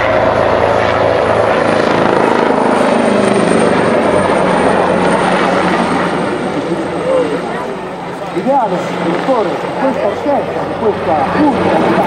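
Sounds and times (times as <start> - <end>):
helicopter rotor beat: 0.0 - 12.0
helicopter turbine noise: 0.0 - 12.0.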